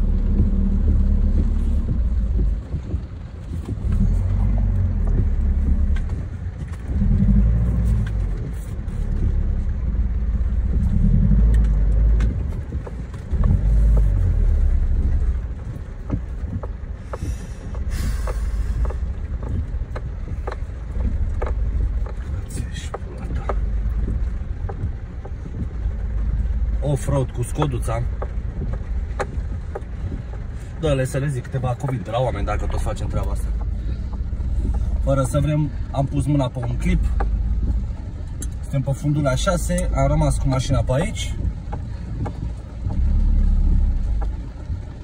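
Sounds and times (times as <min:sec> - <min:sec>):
car engine and tyres rumbling: 0:00.0 - 0:45.0
car knocking on rough ground: 0:00.0 - 0:45.0.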